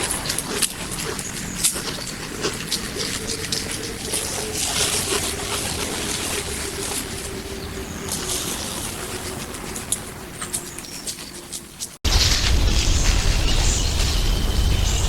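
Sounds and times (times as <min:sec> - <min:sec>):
dry leaves rustling: 0:00.0 - 0:15.0.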